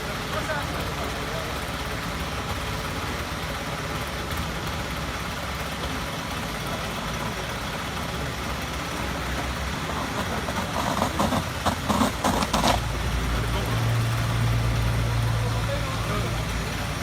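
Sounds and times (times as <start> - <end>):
machine engine idling: 0.0 - 17.0.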